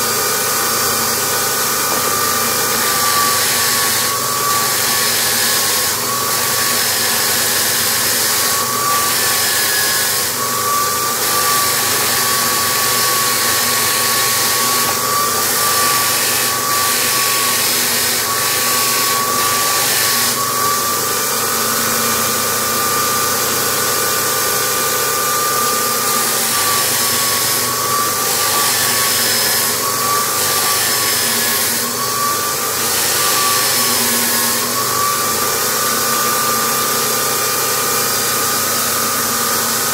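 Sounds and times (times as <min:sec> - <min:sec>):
electric drill motor whine: 0:00.0 - 0:39.9.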